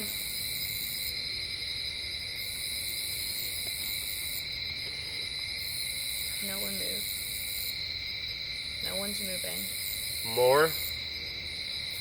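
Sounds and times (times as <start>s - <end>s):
high-pitched insect hiss: 0.0s - 12.0s
night insects droning: 0.0s - 12.0s.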